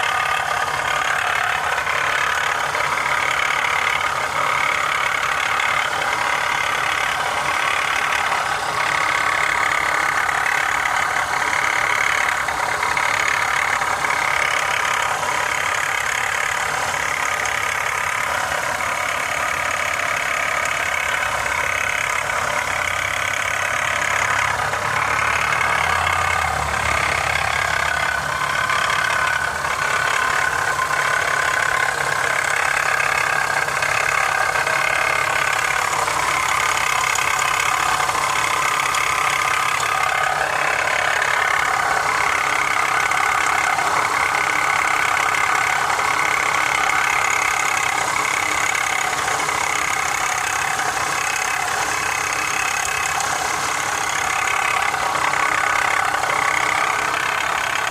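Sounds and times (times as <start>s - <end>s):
car engine idling with rattling: 0.0s - 57.9s.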